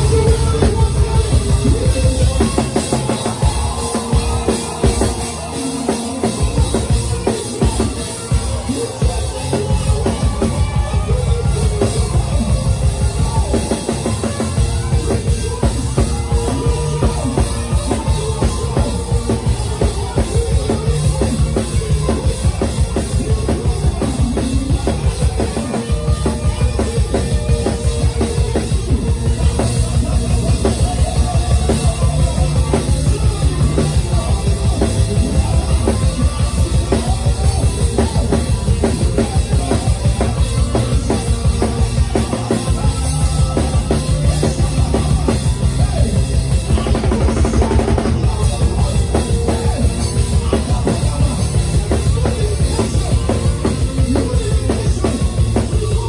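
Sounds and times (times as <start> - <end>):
drum kit beat: 0.0 - 56.0
live praise band playing: 0.0 - 56.0.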